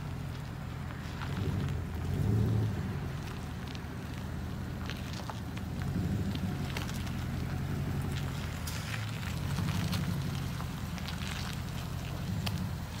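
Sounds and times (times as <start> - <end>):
engine running low hum: 0.0 - 13.0.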